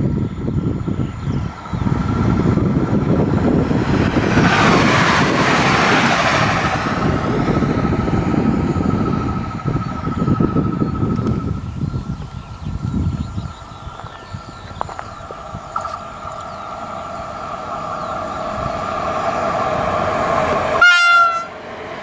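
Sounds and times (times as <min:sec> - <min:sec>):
wind buffeting microphone: 0:00.0 - 0:20.9
train passing at speed: 0:00.0 - 0:22.0.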